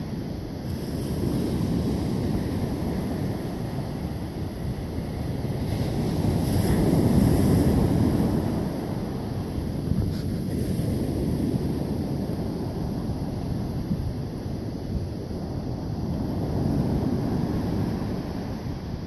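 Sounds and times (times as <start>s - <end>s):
small waves breaking on beach: 0.0s - 19.0s
wind rumbling on microphone: 0.0s - 19.0s.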